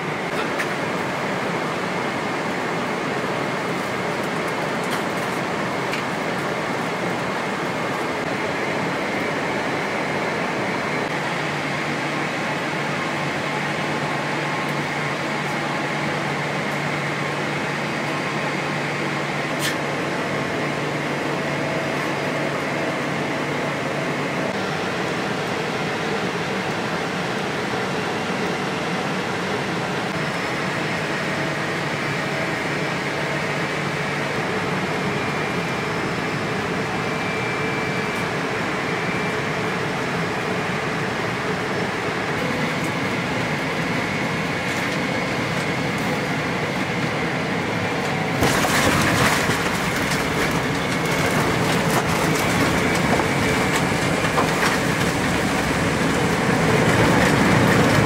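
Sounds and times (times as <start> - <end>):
airliner cabin engine and airflow noise: 0.0 - 58.0.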